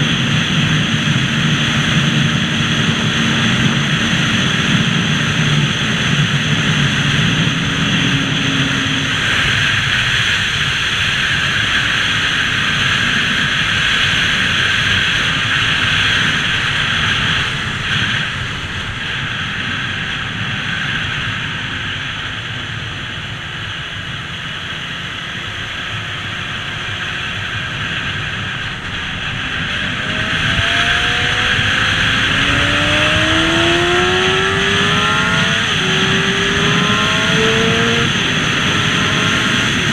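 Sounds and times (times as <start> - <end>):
motorbike engine accelerating: 0.0 - 22.5, 23.8 - 39.9
wind and road rush: 0.0 - 39.9.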